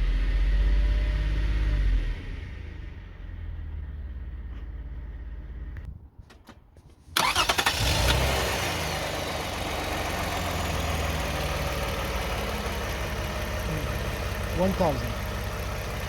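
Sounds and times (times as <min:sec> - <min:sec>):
car engine starting and idling: 0:00.0 - 0:16.0.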